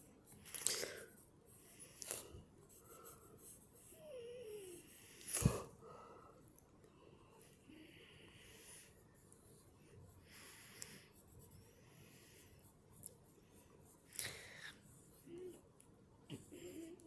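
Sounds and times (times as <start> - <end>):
faint drawing strokes: 0.0 - 17.0.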